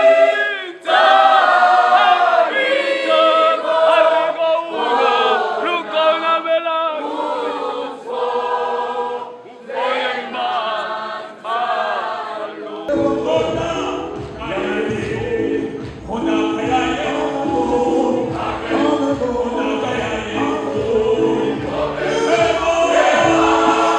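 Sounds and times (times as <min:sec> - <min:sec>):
choir singing a hymn: 0:00.0 - 0:06.2, 0:06.9 - 0:23.9.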